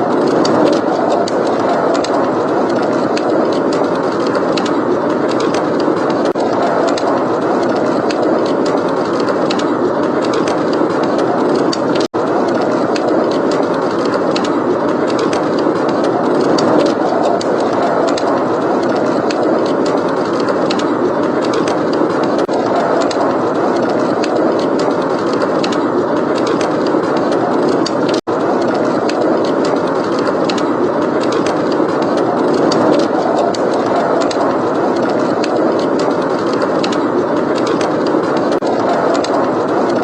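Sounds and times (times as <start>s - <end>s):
blizzard wind rushing: 0.0s - 40.0s
fireplace crackling: 0.0s - 40.0s.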